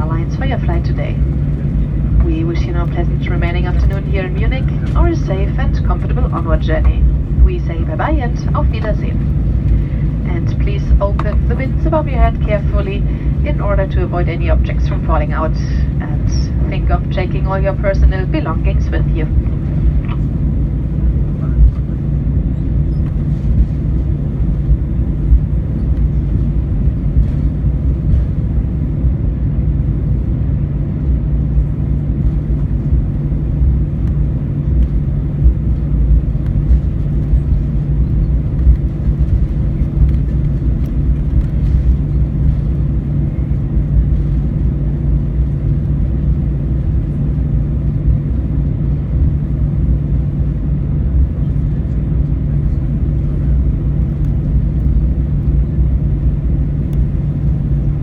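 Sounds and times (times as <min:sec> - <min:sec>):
aircraft cabin rumble and hum: 0:00.0 - 0:58.0.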